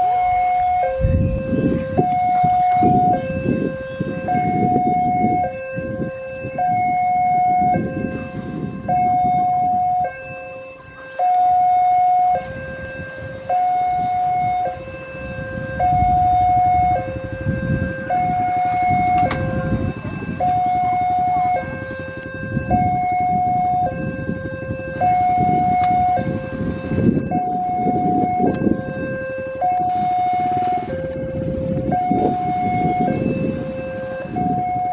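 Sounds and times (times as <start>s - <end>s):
level crossing two-tone alarm: 0.0s - 34.9s.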